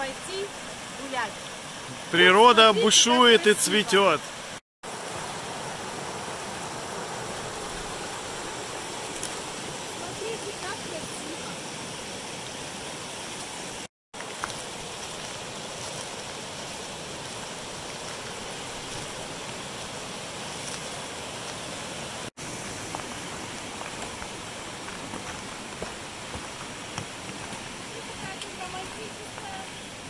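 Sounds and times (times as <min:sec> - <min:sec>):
creek rushing over rocks: 0:00.0 - 0:30.0.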